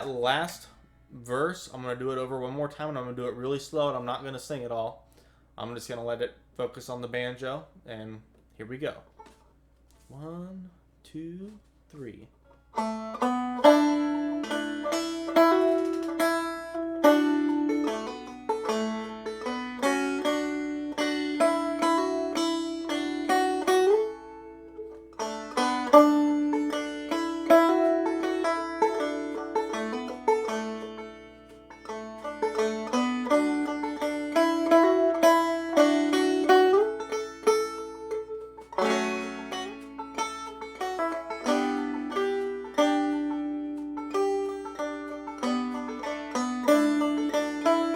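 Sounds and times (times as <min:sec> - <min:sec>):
banjo playing: 0:00.0 - 0:04.9, 0:09.1 - 0:09.5, 0:12.6 - 0:47.9.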